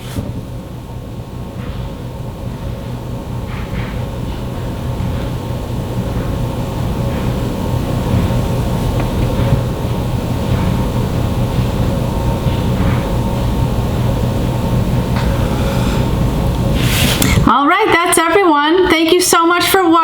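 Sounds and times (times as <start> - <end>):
low droning hum: 0.0 - 20.0.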